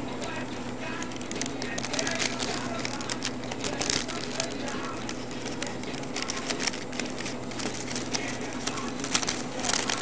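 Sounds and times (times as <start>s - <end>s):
rolling paper crinkling: 0.0s - 10.0s.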